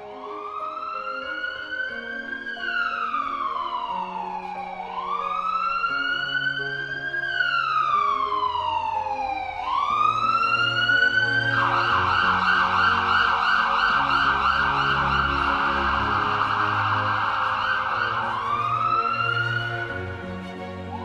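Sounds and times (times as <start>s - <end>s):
emergency vehicle siren: 0.0s - 21.0s.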